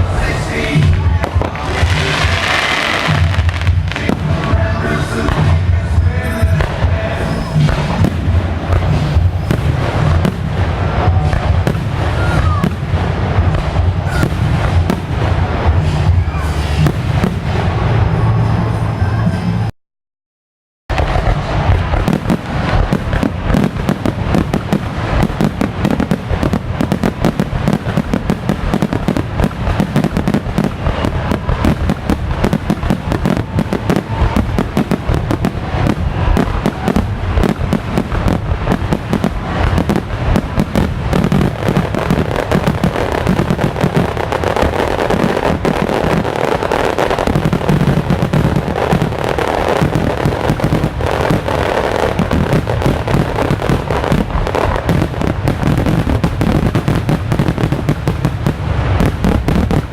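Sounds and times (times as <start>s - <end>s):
fireworks bursting: 0.0s - 19.7s, 20.9s - 59.9s.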